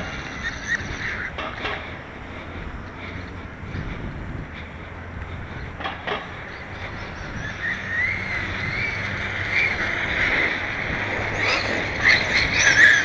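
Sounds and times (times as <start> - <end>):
tyres hissing on asphalt: 0.0 - 13.0.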